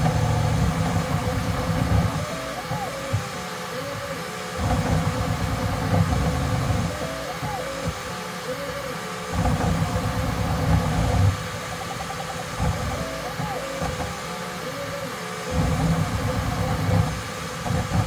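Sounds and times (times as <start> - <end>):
steady fan: 0.0 - 18.0
stepper motors whining: 0.0 - 18.0.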